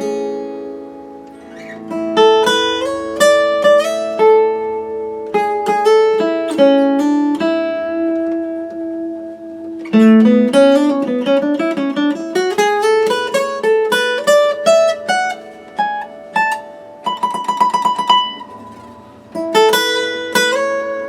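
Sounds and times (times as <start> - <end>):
acoustic guitar picked notes and chords: 0.0 - 21.0.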